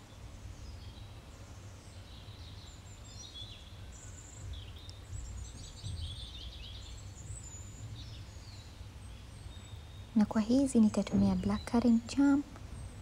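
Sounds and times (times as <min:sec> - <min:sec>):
low steady hum: 0:00.0 - 0:13.0
small birds chirping and trilling: 0:00.0 - 0:13.0.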